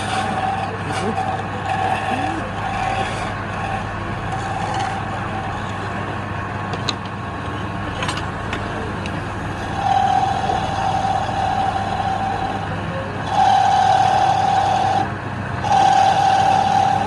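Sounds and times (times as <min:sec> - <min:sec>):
high steady whine: 0:00.0 - 0:17.0
machine motor humming: 0:00.0 - 0:17.0.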